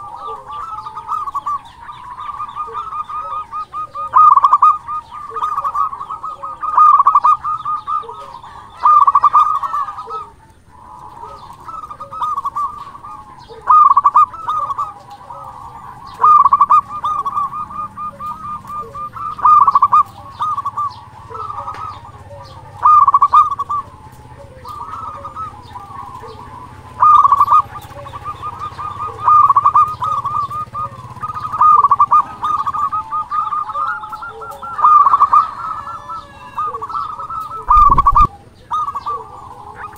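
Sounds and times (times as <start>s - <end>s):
dove cooing song: 0.0s - 39.9s.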